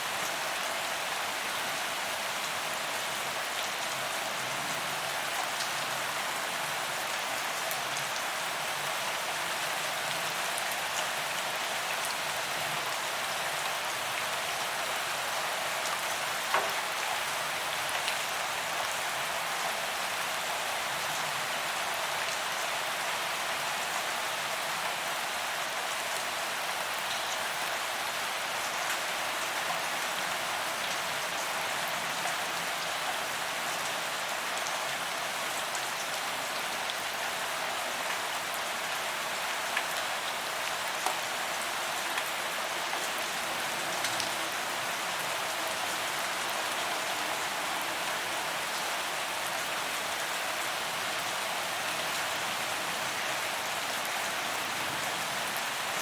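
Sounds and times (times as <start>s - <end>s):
rain on pavement: 0.0s - 56.0s.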